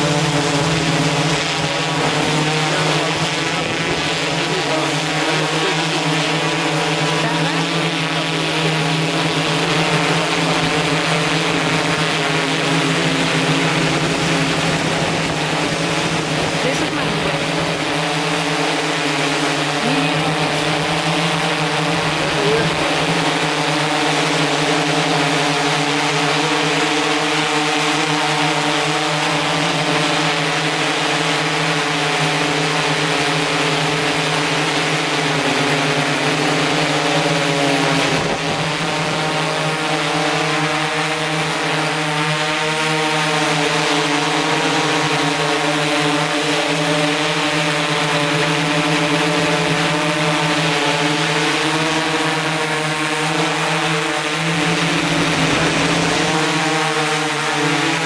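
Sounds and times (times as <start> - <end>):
drone motors humming: 0.0 - 58.0.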